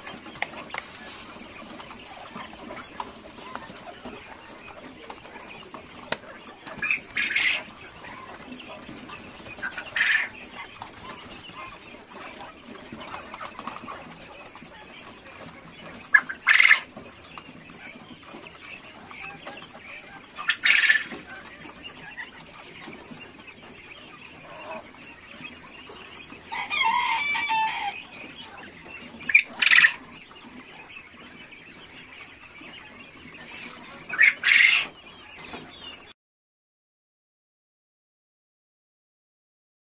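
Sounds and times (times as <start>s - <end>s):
quail calling: 0.0s - 36.1s
quiet chirping and rustling: 0.0s - 36.1s.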